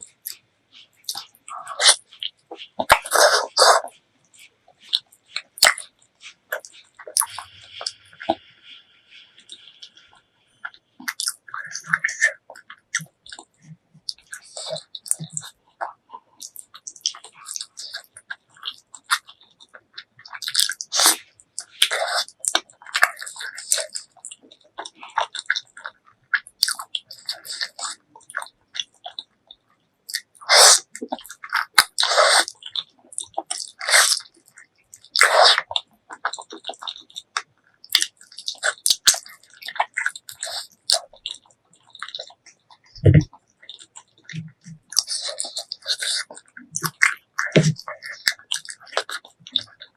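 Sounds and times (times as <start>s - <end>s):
mouth chewing wet smacks: 0.0s - 49.9s.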